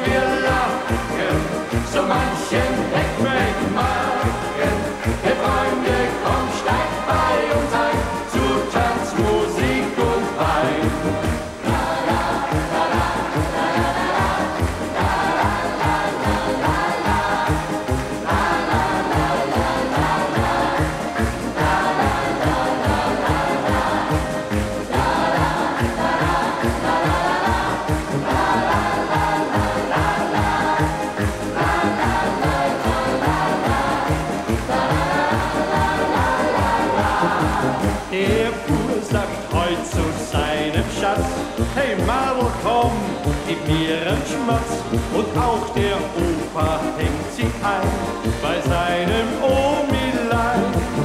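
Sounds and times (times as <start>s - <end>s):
choir singing: 0.0s - 51.0s
upbeat music with steady beat: 0.0s - 51.0s.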